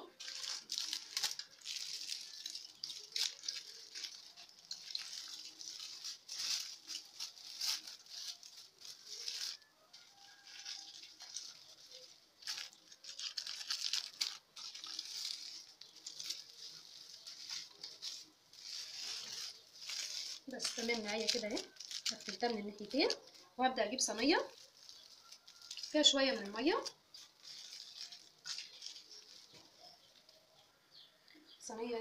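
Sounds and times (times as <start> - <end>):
aluminium foil crinkling: 0.0 - 31.5.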